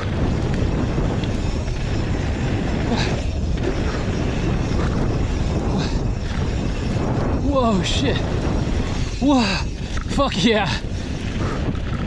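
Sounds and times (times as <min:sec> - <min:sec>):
bike tyres rumbling on dirt: 0:00.0 - 0:12.0
wind buffeting microphone: 0:00.0 - 0:12.0.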